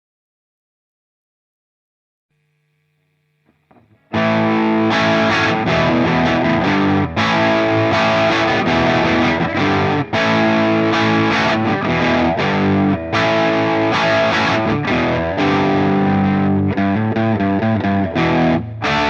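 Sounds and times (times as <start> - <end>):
overdriven electric guitar riff: 2.4 - 19.0.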